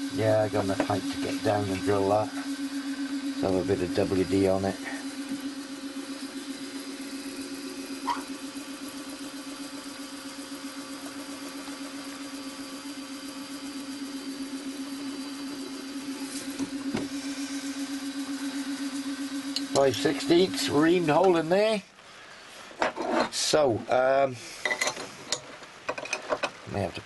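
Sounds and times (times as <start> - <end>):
milling machine spindle hum: 0.0 - 21.8.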